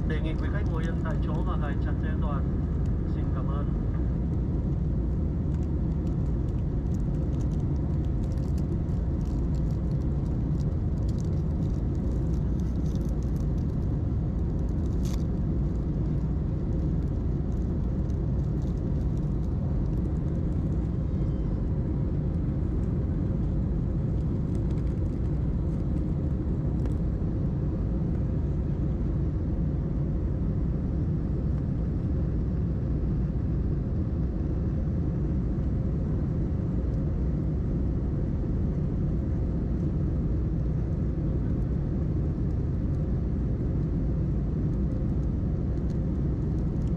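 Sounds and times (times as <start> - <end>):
airplane engines rumbling: 0.0 - 46.9.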